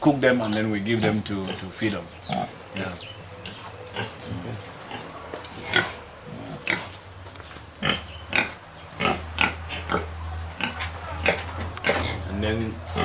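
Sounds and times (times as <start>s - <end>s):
pigs grunting and squealing: 0.0s - 13.0s.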